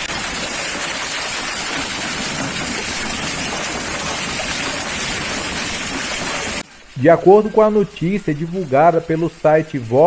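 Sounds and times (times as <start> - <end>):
hailstones pelting down: 0.0 - 9.6
heavy rain: 0.0 - 10.0.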